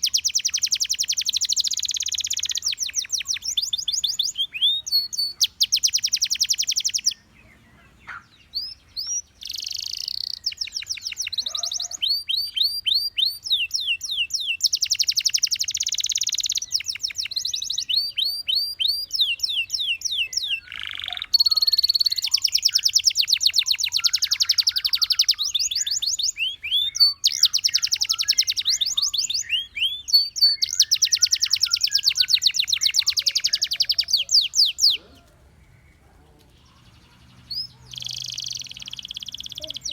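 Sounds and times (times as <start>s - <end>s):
canary singing trills and whistles: 0.0s - 36.0s, 36.6s - 39.9s.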